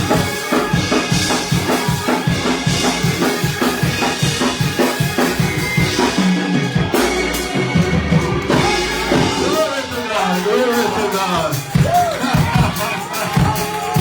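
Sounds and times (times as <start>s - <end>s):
fast drum kit beat: 0.0s - 14.0s
live church band music: 0.0s - 14.0s.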